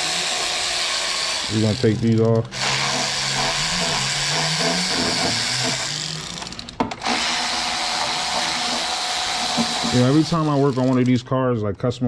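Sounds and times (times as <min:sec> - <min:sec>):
cordless power tool running: 0:00.0 - 0:11.2.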